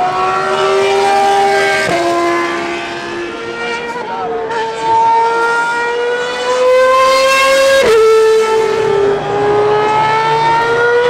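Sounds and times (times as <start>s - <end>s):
racing car engine at high revs: 0.0s - 11.0s.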